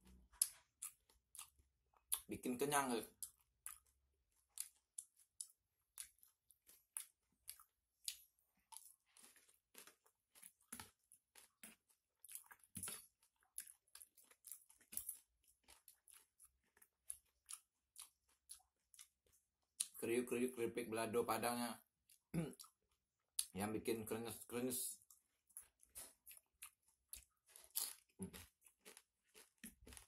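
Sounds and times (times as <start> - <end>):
mouth chewing crunchy chips: 0.2 - 20.4, 22.1 - 30.0.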